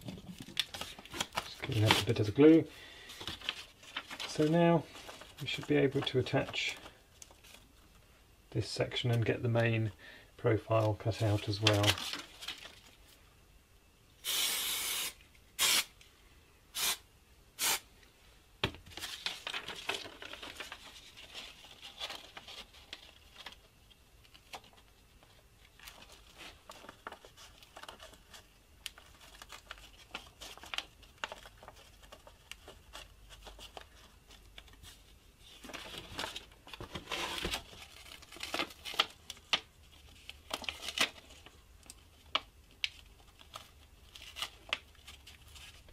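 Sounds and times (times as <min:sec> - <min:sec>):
paper rustling and crinkling: 0:00.0 - 0:08.0, 0:10.8 - 0:13.2, 0:18.8 - 0:45.9.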